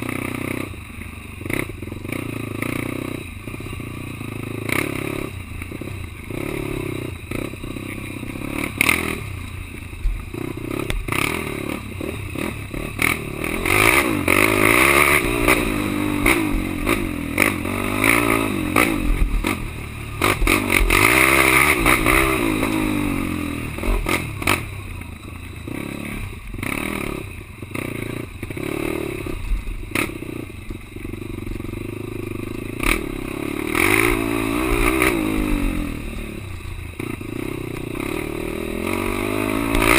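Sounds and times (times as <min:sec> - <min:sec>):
quad engine revving: 0:00.0 - 0:00.8, 0:01.4 - 0:09.3, 0:10.3 - 0:24.8, 0:25.7 - 0:30.4, 0:31.2 - 0:39.9.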